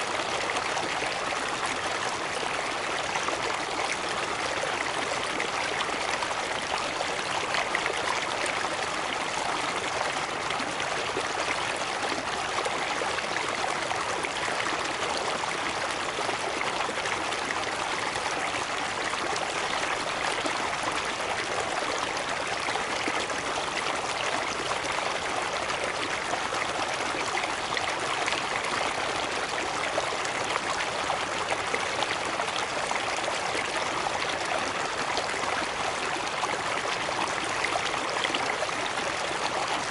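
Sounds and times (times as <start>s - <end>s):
small waterfall splashing over rocks: 0.0s - 39.9s.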